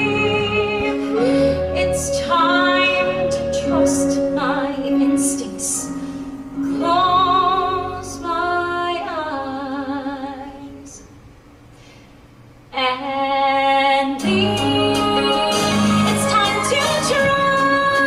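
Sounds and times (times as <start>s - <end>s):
woman singing with vibrato: 0.0s - 11.0s, 12.7s - 18.0s.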